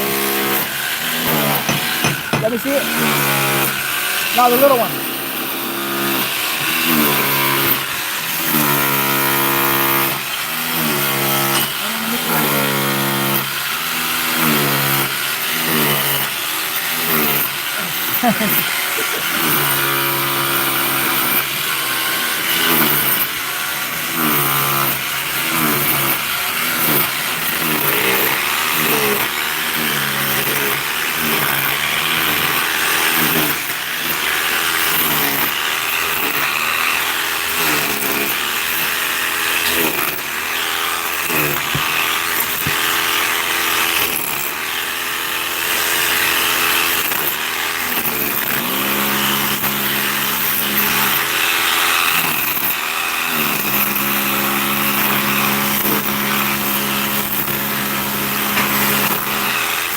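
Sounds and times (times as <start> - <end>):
power tool motor running: 0.0 - 59.9.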